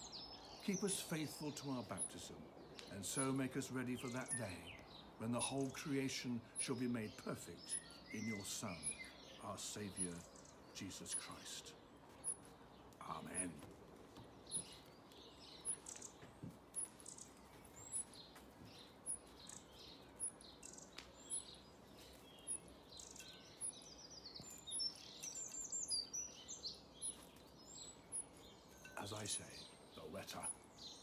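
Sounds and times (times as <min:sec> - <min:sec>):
birds chirping and singing: 0:00.0 - 0:31.0.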